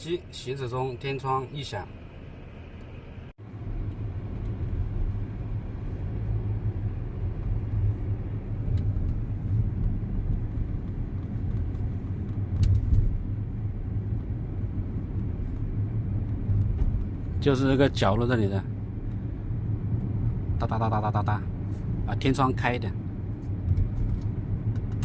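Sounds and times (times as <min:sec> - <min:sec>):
road rumble inside car: 0:00.0 - 0:25.0.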